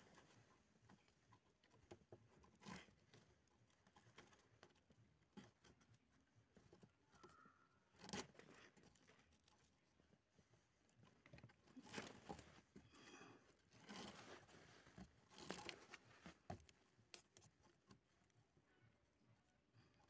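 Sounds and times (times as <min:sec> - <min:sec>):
rope rustling on bamboo slats: 0:00.0 - 0:18.3.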